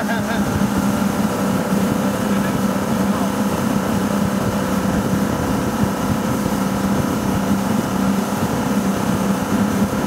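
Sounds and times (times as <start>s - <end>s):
boat engine running: 0.0s - 10.0s
rushing water: 0.0s - 10.0s
wind: 0.0s - 10.0s.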